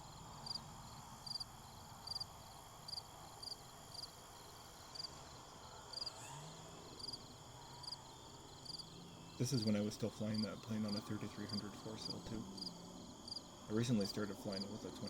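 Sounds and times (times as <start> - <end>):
cricket chirping: 0.0 - 15.0
steady background hiss: 0.0 - 15.0.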